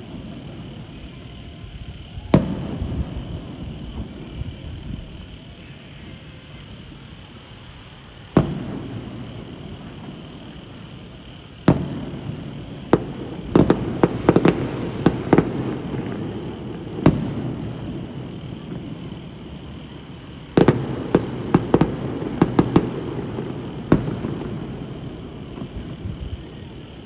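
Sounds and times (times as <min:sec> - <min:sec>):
distant explosions rumbling: 0:00.0 - 0:05.4, 0:08.3 - 0:27.0
crackling fireworks pops: 0:00.0 - 0:27.0
fireworks bangs: 0:00.0 - 0:27.0.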